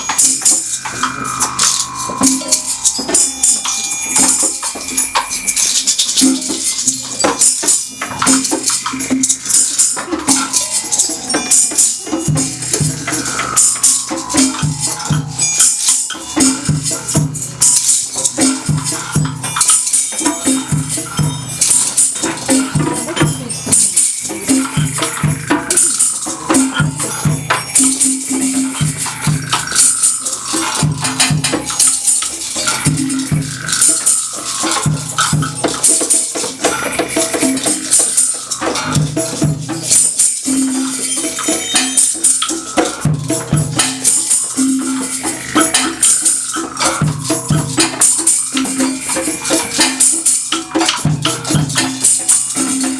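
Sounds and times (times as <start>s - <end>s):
sliding higher tones: 0.0s - 51.6s
shakers and tambourine: 0.0s - 52.9s.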